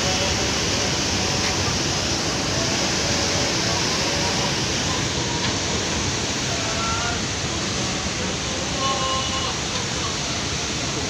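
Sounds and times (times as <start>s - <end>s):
rushing churning water: 0.0s - 11.0s.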